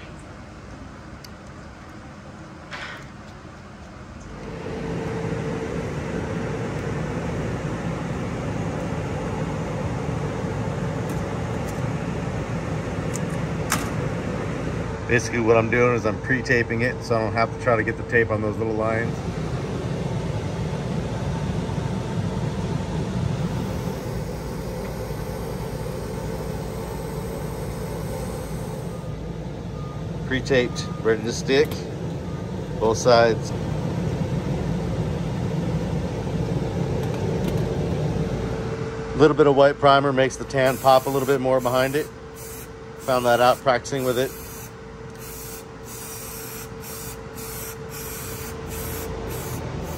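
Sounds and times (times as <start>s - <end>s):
mechanical fan humming: 3.4s - 49.9s
exhaust blower air rush: 4.3s - 49.9s.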